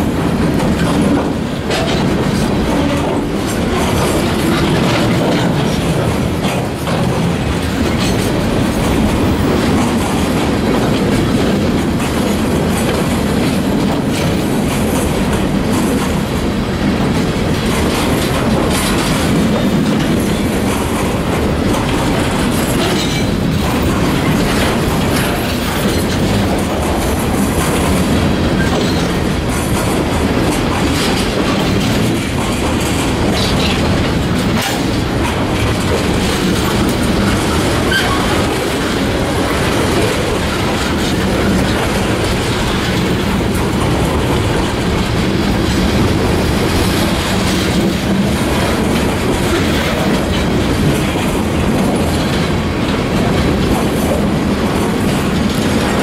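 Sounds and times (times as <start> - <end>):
freight train rumble: 0.0 - 56.0
wheels clacking on rail joints: 0.0 - 56.0.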